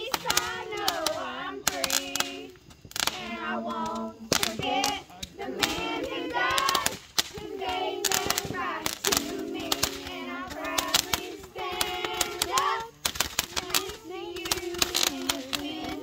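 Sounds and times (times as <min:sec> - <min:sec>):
fireworks crackling and popping: 0:00.0 - 0:16.0
song with sung melody: 0:00.0 - 0:16.0.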